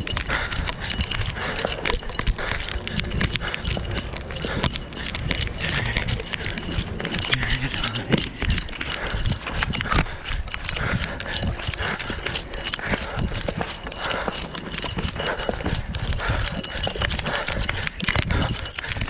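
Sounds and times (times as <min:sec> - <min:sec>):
footsteps on concrete: 0:00.0 - 0:19.0.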